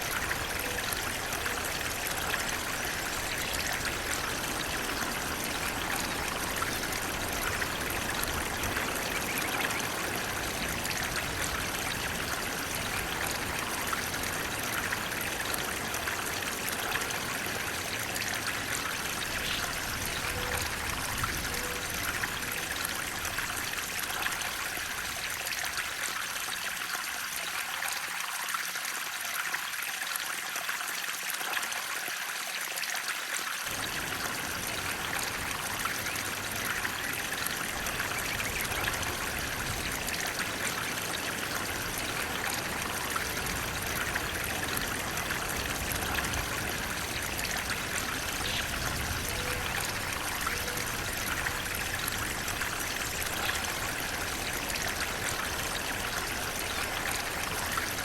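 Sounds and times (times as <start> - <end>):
water rushing and trickling: 0.0 - 58.0.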